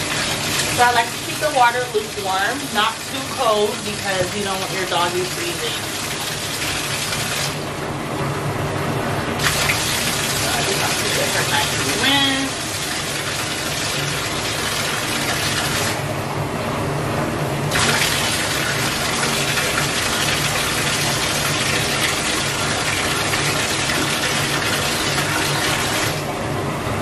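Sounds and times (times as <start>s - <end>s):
bathtub faucet gushing water: 0.0s - 27.0s.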